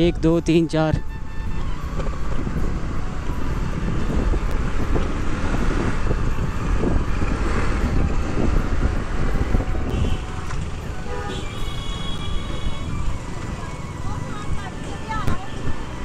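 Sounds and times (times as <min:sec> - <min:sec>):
road noise: 0:00.0 - 0:16.0
wind buffeting microphone: 0:00.0 - 0:16.0
scooter engine: 0:01.8 - 0:16.0.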